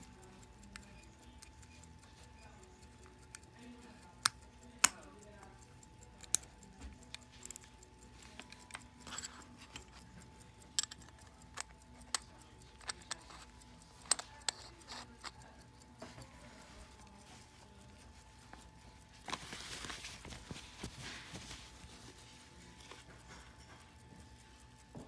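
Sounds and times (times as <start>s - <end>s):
pocket watch clicks and taps: 0.0s - 25.0s.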